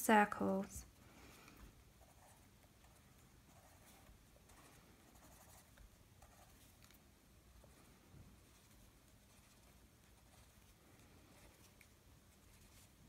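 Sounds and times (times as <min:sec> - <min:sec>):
pencil scratching on paper: 0:01.9 - 0:07.0, 0:07.6 - 0:13.0.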